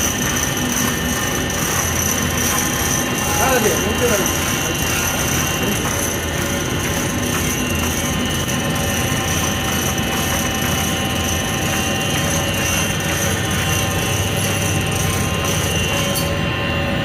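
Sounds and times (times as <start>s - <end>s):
loud machinery drone: 0.0s - 17.0s.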